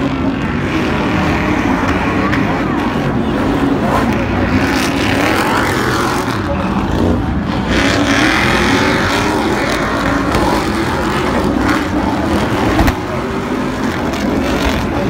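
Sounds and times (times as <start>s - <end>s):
racing truck engines revving: 0.0s - 15.0s.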